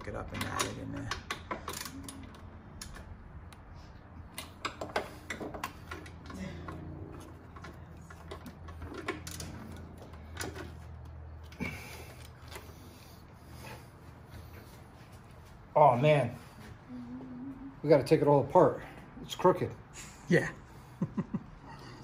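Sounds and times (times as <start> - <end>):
low steady hum: 0.0 - 19.2.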